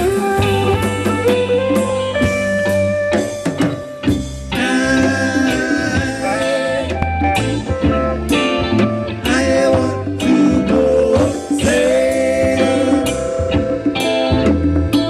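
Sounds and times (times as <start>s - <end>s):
guitar playing: 0.0s - 15.0s
low bass line: 0.0s - 15.0s.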